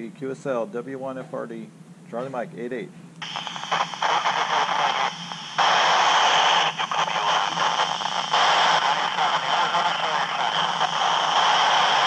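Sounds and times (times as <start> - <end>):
radio static hissing: 1.5 - 12.0.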